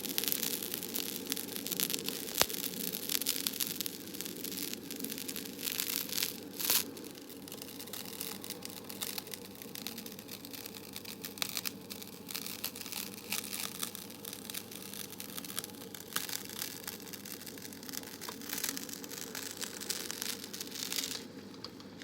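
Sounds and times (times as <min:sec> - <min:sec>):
background hiss: 0:00.0 - 0:22.0
close crinkling and crackling: 0:00.0 - 0:22.0.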